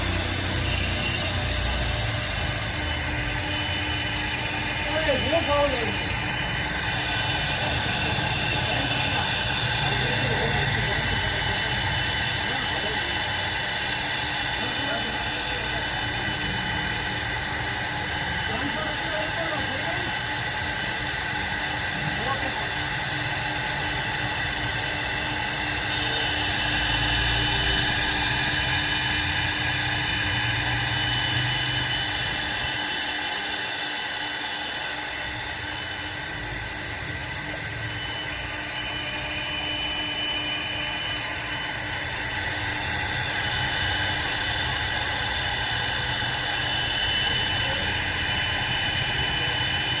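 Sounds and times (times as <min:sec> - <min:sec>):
cnc router spindle whine: 0:00.0 - 0:50.0.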